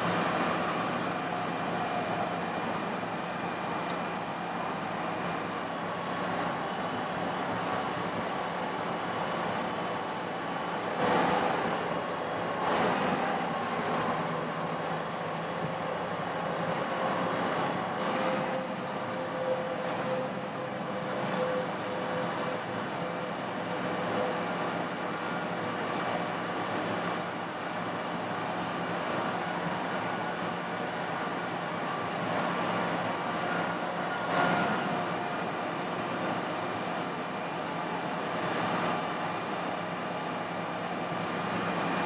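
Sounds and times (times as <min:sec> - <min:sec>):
faint steady whine: 0:00.0 - 0:42.0
truck engine and hydraulics running: 0:00.0 - 0:42.0.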